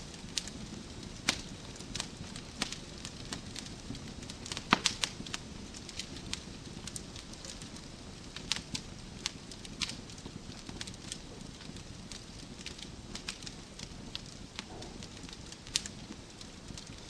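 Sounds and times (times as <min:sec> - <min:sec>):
fireplace logs crackling: 0:00.0 - 0:17.0
low rumble of flames: 0:00.0 - 0:17.0.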